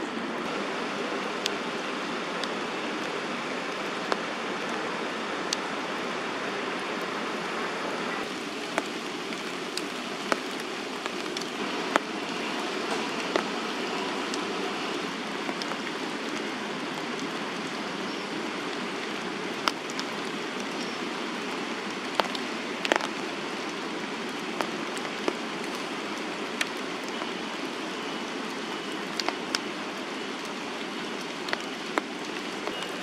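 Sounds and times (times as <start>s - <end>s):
steady rain hiss: 0.0s - 33.0s
raindrops tapping close by: 0.5s - 5.8s, 8.2s - 33.0s.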